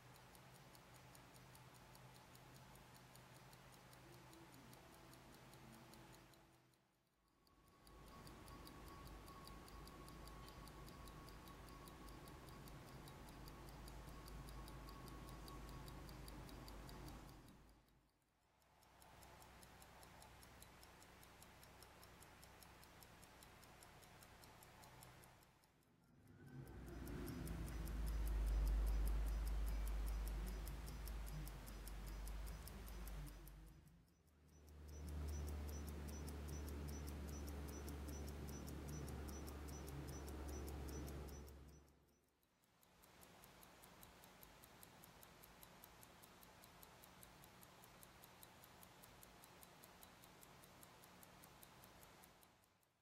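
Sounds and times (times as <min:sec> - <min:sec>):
pocket watch ticking: 0:00.0 - 0:53.0.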